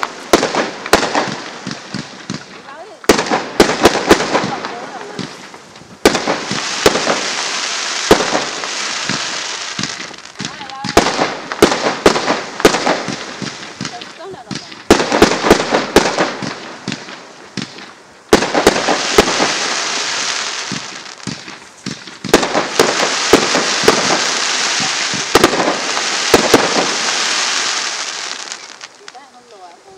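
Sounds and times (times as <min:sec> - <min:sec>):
firework bangs: 0:00.0 - 0:29.9
firework stars hissing: 0:00.0 - 0:29.9.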